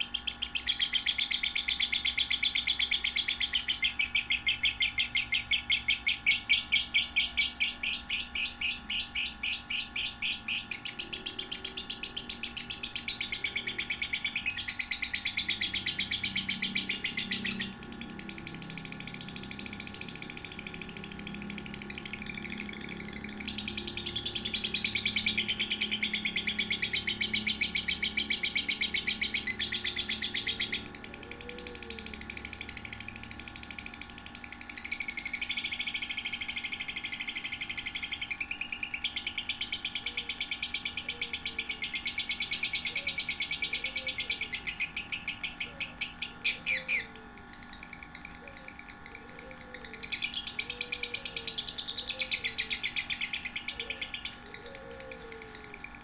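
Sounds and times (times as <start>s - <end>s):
bird chirping: 0.0s - 56.0s
lovebird rapid trills: 0.0s - 56.0s.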